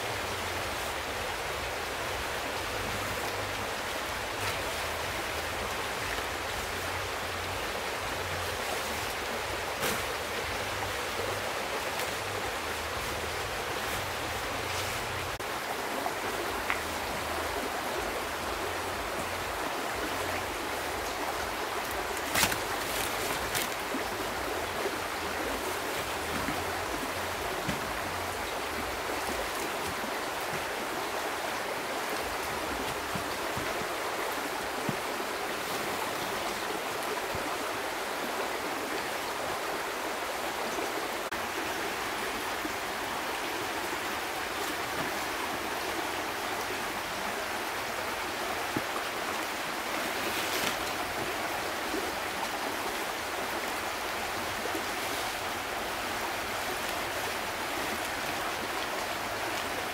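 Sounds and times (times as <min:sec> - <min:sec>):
large leaves rustling: 0:00.0 - 0:59.9
river rushing: 0:00.0 - 0:59.9.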